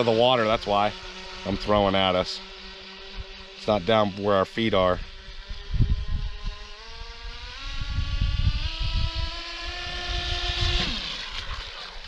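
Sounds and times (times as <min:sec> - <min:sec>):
model speedboat motor whining: 0:00.0 - 0:12.0.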